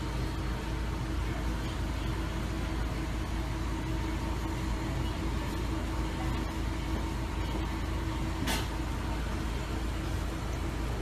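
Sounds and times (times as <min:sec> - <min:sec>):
faint constant tone: 0:00.0 - 0:11.0
machinery rumble and hum: 0:00.0 - 0:11.0.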